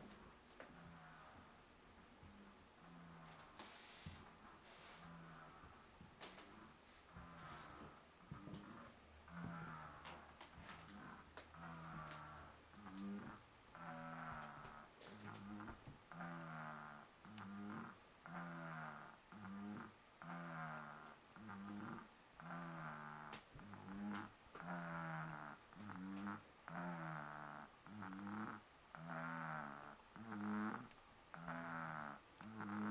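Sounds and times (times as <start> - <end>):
person snoring: 2.2 - 32.9.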